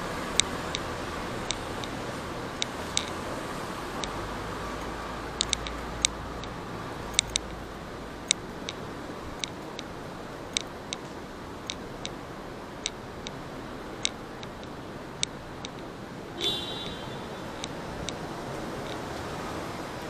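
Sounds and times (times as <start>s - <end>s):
city street hum: 0.0s - 20.0s
light sharp ticks: 0.2s - 20.0s.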